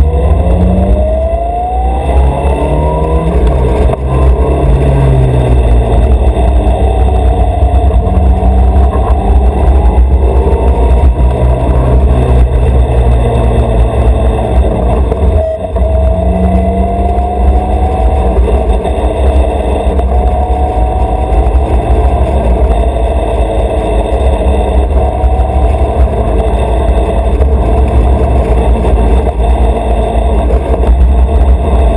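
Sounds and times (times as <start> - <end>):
tractor engine rumbling: 0.0 - 31.9.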